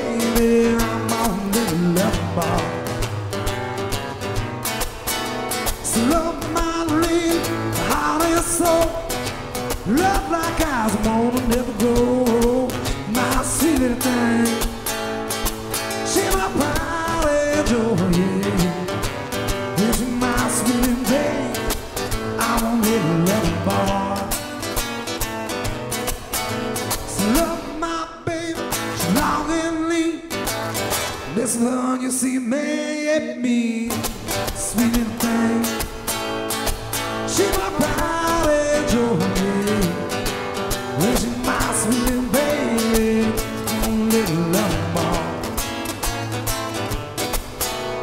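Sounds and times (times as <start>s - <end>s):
man singing: 0.0s - 3.1s, 5.7s - 15.0s, 15.7s - 24.8s, 26.9s - 30.6s, 31.2s - 36.2s, 37.1s - 46.1s
acoustic guitars playing: 0.0s - 48.0s.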